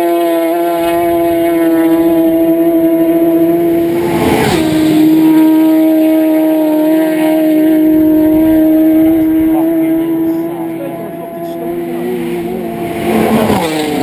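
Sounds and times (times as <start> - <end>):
motorcycle rushing past: 0.0 - 14.0
racing motorcycle engine high revs: 0.0 - 14.0.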